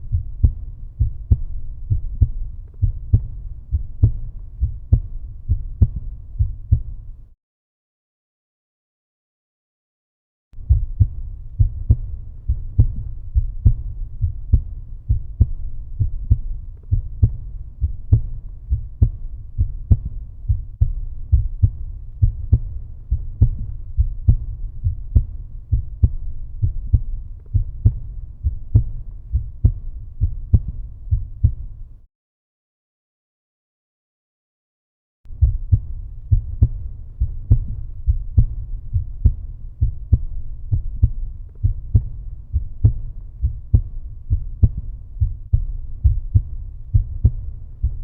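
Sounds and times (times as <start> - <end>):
heartbeat thumps: 0.0 - 7.3, 10.6 - 31.9, 35.3 - 48.0.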